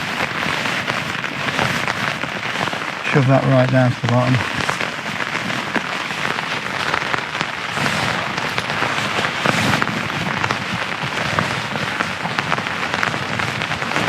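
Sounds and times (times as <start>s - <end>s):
plastic liner crinkling: 0.0s - 14.0s
rain pattering on tent: 0.0s - 14.0s.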